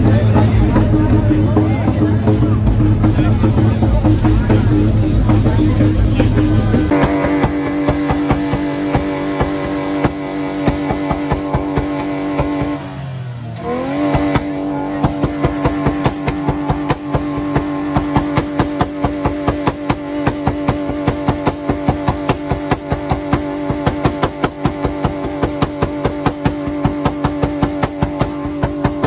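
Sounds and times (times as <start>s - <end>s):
car engine bouncing off rev limiter: 0.0s - 29.0s.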